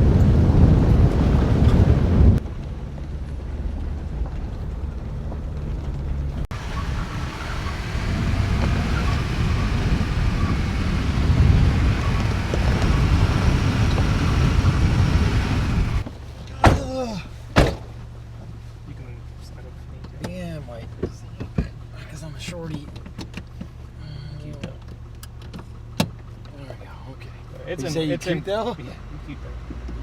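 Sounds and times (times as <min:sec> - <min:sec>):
tyres rumbling over rough ground: 0:00.0 - 0:30.0
vehicle engine hum: 0:00.0 - 0:30.0.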